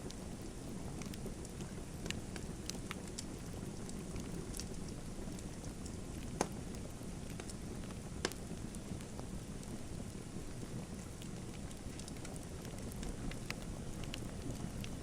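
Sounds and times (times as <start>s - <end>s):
wood fire crackling: 0.0s - 15.0s
fire pops: 1.0s - 15.0s.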